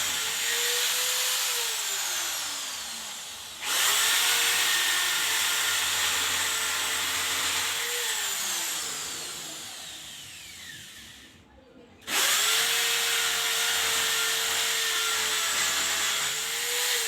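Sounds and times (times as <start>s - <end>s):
electric power drill: 0.0s - 11.4s, 12.0s - 17.0s.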